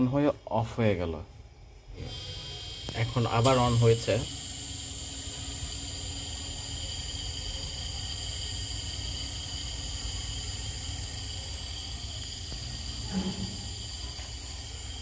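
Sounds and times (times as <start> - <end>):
air conditioner unit humming: 0.0 - 15.0
compressor high whine: 0.0 - 15.0.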